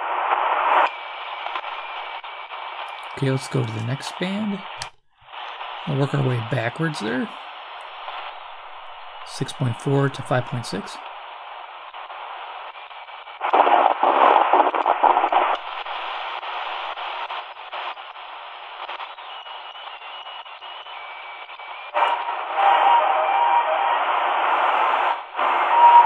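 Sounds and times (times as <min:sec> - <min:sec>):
radio signals: 0:00.0 - 0:26.0
shortwave radio hiss: 0:00.0 - 0:26.0
thin radio whistles: 0:00.1 - 0:26.0.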